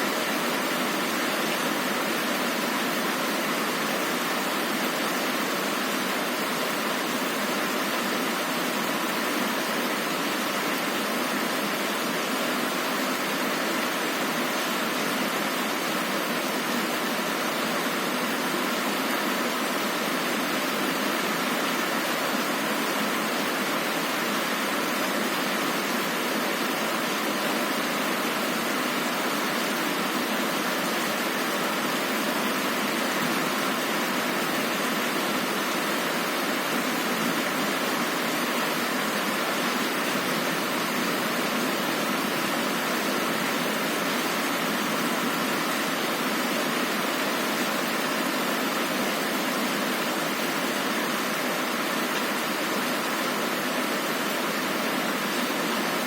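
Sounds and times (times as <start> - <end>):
heavy rain on a window: 0.0 - 56.0.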